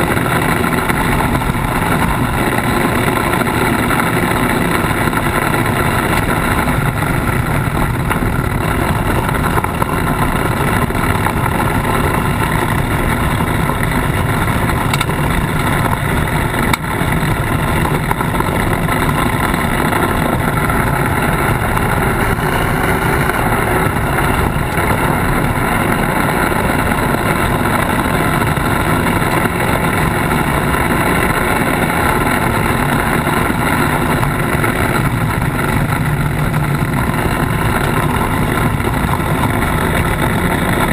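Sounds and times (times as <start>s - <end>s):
off-road vehicle running: 0.0s - 40.9s
rumble from gravel track: 0.0s - 40.9s.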